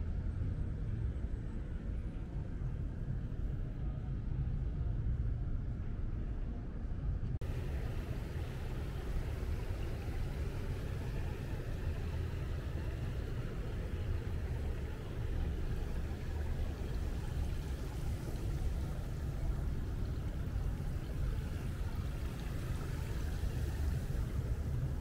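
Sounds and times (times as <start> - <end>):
low rumble of traffic: 0.0 - 25.0.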